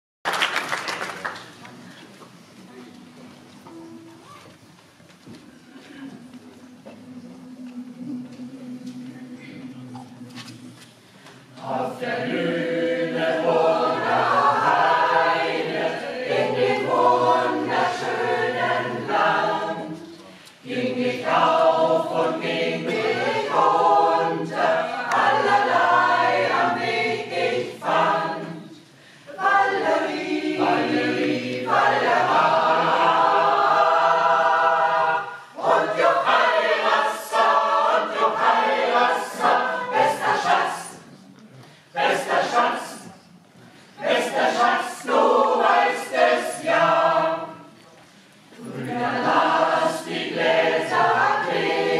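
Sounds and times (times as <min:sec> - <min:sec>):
mixed choir singing: 0:06.6 - 0:10.8, 0:11.4 - 0:47.8, 0:48.4 - 0:51.9.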